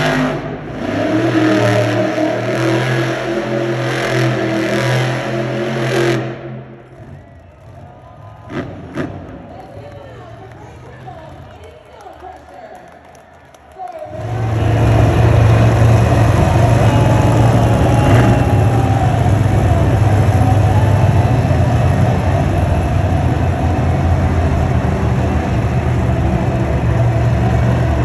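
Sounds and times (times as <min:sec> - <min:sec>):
loud truck engine running: 0:00.0 - 0:11.5, 0:14.0 - 0:28.0.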